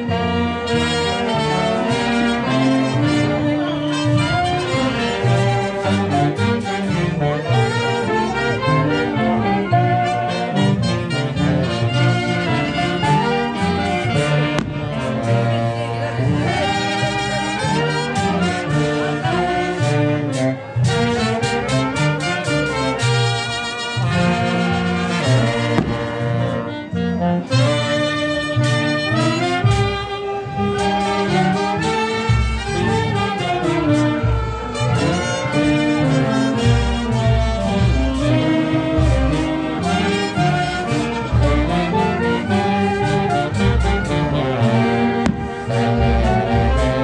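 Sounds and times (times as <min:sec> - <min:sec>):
brass band playing: 0:00.0 - 0:47.0.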